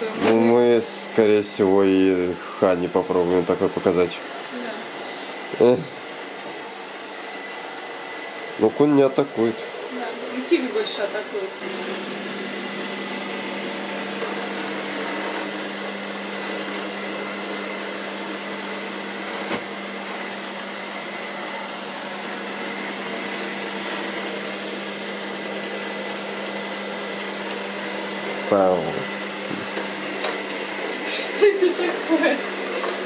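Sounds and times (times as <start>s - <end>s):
robot vacuum whirring: 0.0s - 33.0s.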